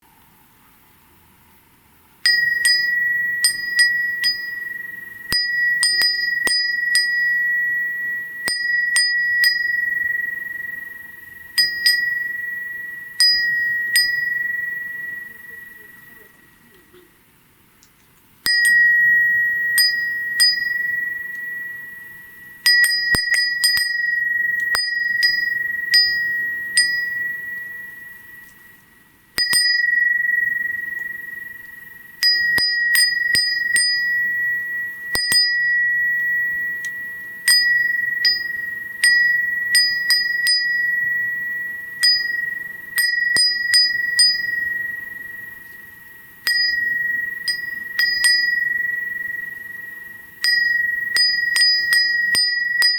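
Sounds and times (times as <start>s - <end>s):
glass wind bell ringing: 2.2s - 16.9s, 18.4s - 52.9s.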